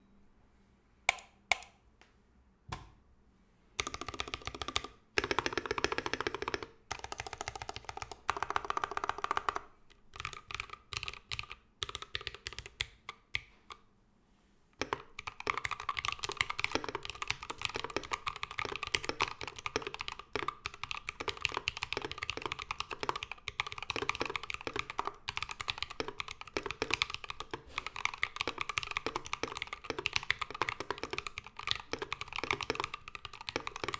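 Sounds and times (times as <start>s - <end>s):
mechanical keyboard typing: 3.8s - 13.0s, 14.8s - 33.9s.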